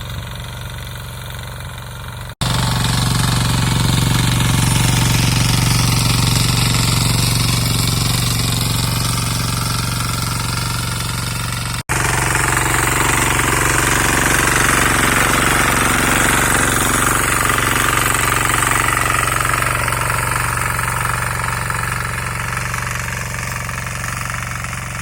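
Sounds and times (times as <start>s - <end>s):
diesel engine knocking: 0.0s - 25.0s.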